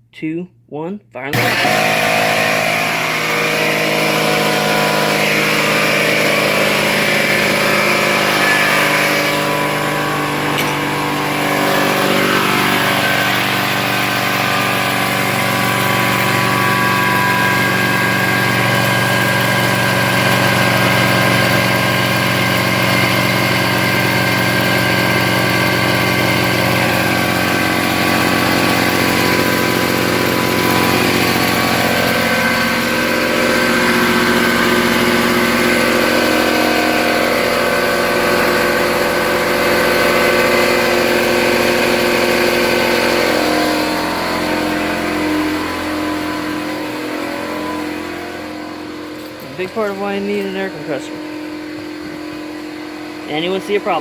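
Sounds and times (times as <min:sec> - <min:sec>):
air compressor running: 0:01.4 - 0:54.0.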